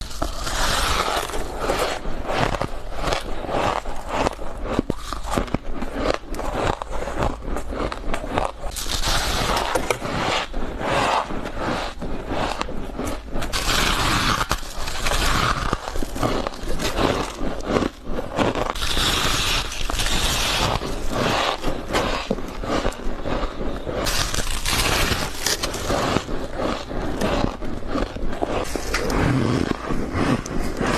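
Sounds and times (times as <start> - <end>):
ice being chewed crunching: 0.0 - 30.9.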